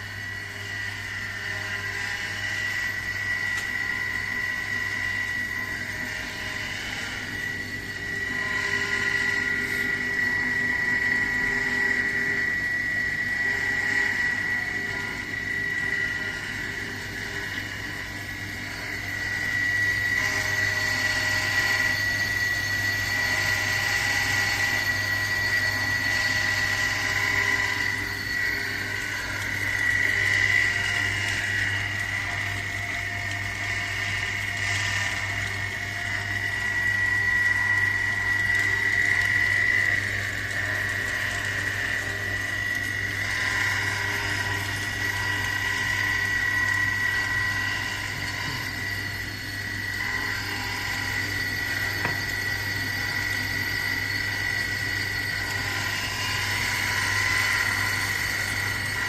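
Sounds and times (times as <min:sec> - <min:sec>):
small machine motor whining: 0:00.0 - 0:59.0.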